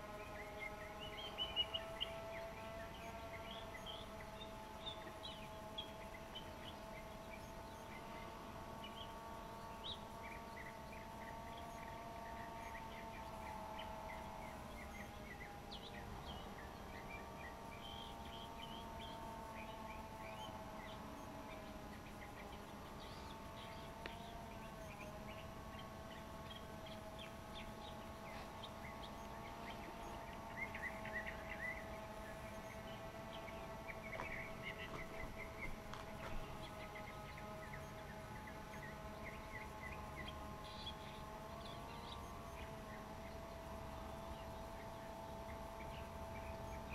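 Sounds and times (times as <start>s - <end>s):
birds chirping: 0.0s - 46.9s
drone propellers humming: 0.0s - 46.9s.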